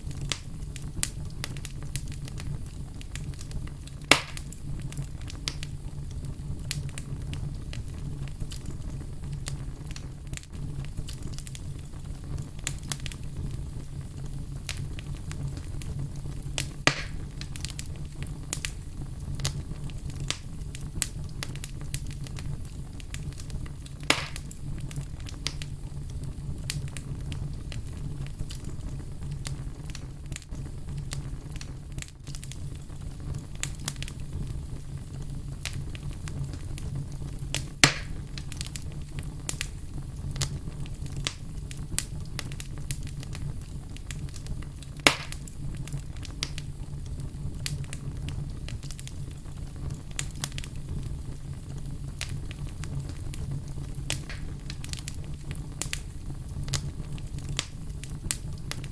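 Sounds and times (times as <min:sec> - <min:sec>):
fire crackling and popping: 0:00.0 - 0:58.9
wood fire rumble: 0:00.0 - 0:58.9.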